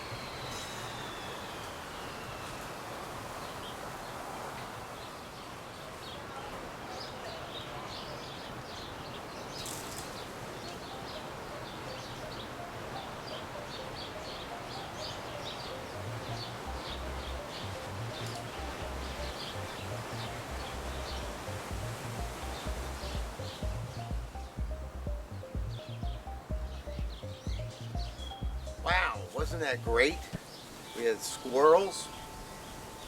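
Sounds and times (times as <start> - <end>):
outdoor background noise: 0.0 - 33.0
small birds chirping: 0.0 - 33.0.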